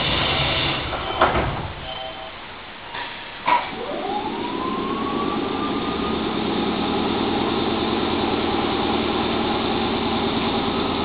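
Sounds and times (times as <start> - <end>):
train motor whine: 0.0 - 2.4, 3.7 - 11.0
train rumbling running noise: 0.0 - 11.0.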